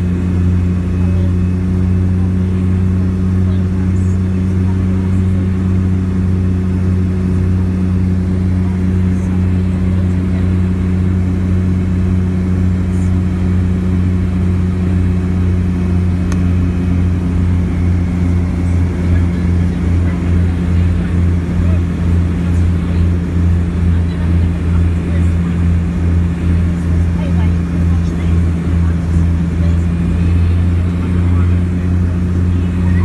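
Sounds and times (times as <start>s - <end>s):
propeller plane engines droning: 0.0s - 33.0s.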